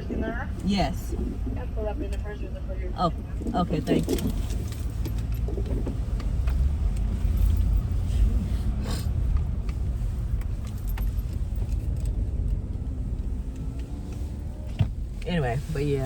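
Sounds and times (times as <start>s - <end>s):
car rumble from inside cabin: 0.0s - 16.0s.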